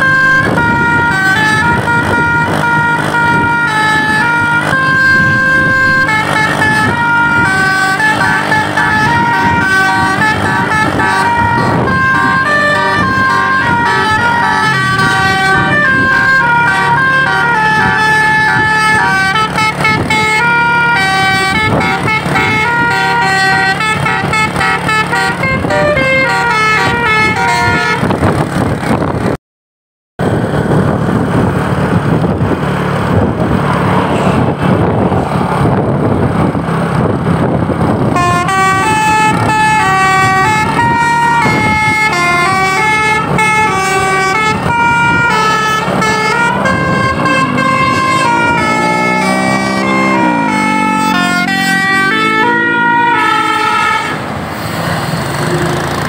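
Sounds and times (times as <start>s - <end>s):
multi-tone bus horn melody: 0.0s - 28.4s, 37.0s - 54.6s, 55.3s - 56.0s
diesel engine humming: 0.0s - 29.4s, 30.2s - 56.0s
road noise: 0.0s - 29.4s, 30.2s - 56.0s.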